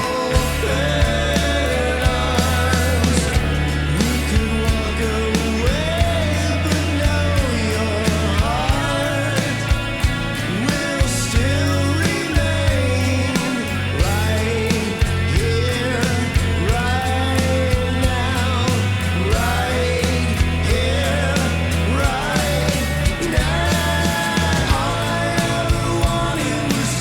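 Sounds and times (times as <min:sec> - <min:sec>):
rock song with drums and bass: 0:00.0 - 0:27.0.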